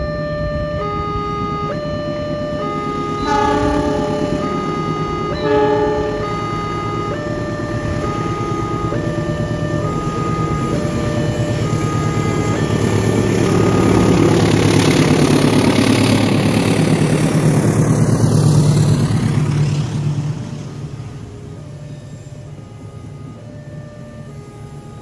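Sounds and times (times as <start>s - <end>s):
diesel locomotive engine hum: 0.0s - 25.0s
train coaches rumbling on rails: 2.4s - 23.4s.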